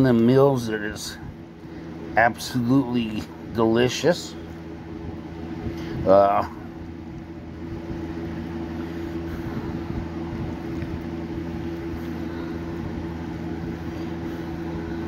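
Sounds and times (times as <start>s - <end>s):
appliance hum: 0.0s - 15.0s.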